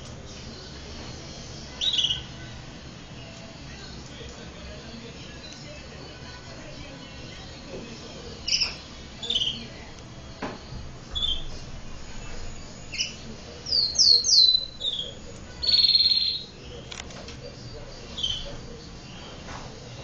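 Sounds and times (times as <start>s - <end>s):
canary singing: 0.3s - 17.0s, 17.7s - 19.2s.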